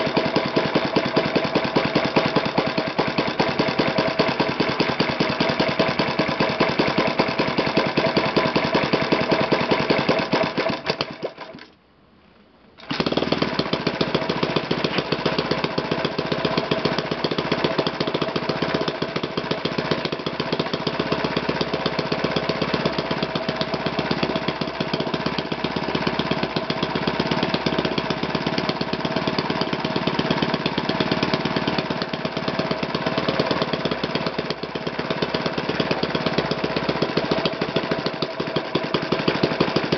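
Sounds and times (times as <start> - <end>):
model engine running: 0.0 - 11.7, 12.8 - 39.9.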